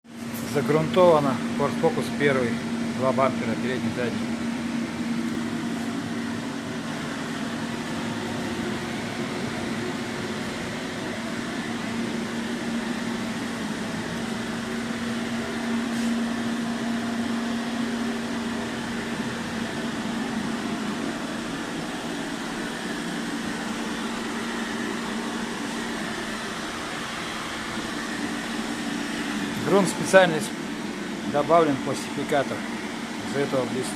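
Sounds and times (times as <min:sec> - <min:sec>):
machine hum with faint whine: 0:00.1 - 0:33.9.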